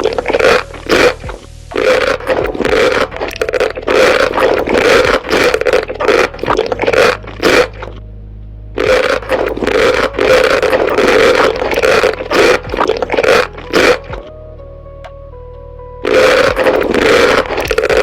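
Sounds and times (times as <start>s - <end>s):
person chewing food: 0.0s - 8.0s, 8.8s - 14.3s, 16.0s - 18.0s.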